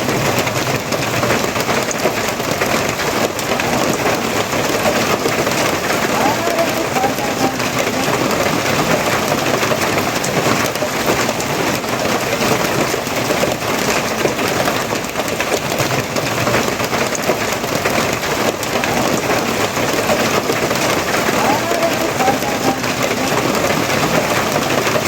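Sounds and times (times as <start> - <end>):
heavy rain pattering: 0.0 - 25.0.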